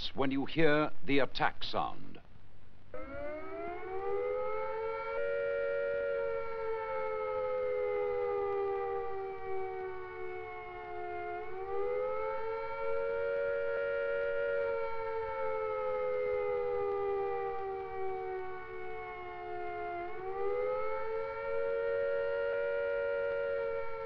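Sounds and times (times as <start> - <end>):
air-raid siren wailing: 2.9 - 24.0.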